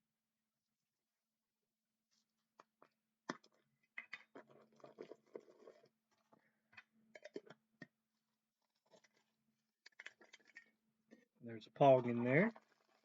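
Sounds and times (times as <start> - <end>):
crinkling and scratching: 2.1 - 13.0.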